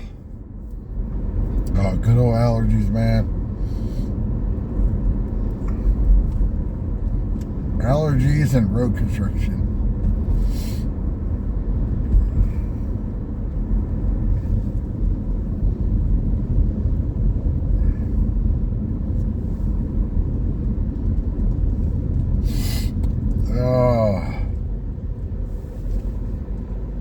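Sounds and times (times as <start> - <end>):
car driving interior rumble: 0.0 - 27.0
road and wind noise: 0.0 - 27.0.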